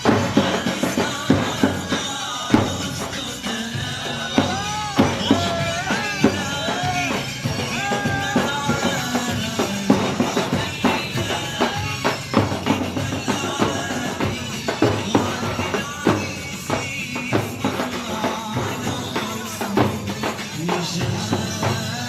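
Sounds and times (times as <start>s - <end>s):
drum beating driving rhythm: 0.0s - 22.0s.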